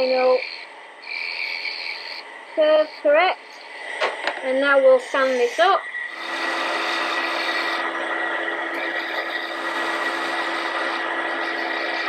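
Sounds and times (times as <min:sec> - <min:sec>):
sanding hiss: 0:00.0 - 0:04.0, 0:04.7 - 0:07.9, 0:08.7 - 0:12.0
wood lathe hum and whine: 0:00.0 - 0:12.0.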